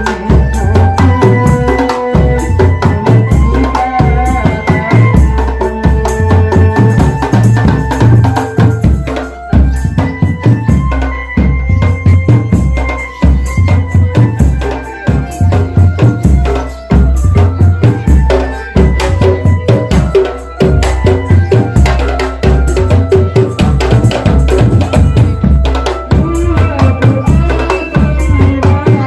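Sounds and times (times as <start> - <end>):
bass drums and snare drums beating: 0.0 - 29.0.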